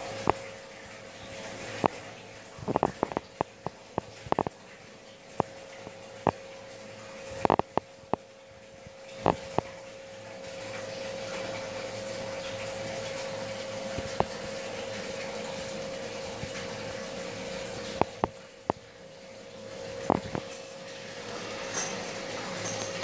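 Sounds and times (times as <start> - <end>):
water rushing: 0.0 - 19.0, 19.6 - 23.0
aquarium pump hum: 0.0 - 23.0.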